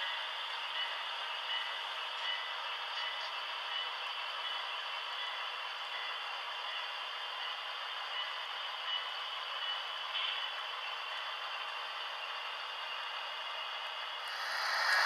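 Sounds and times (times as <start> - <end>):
model locomotives rumble-hiss: 0.0 - 15.0.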